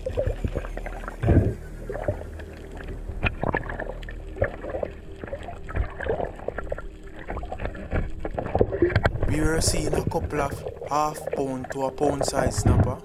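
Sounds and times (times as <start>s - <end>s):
underwater rumble of moving water: 0.0s - 13.0s.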